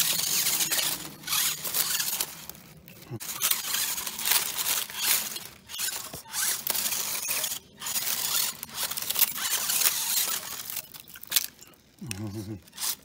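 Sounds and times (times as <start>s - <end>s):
small electric motor whirring: 0.0s - 11.4s, 12.0s - 13.0s
tyres scraping on rocks: 0.0s - 13.0s.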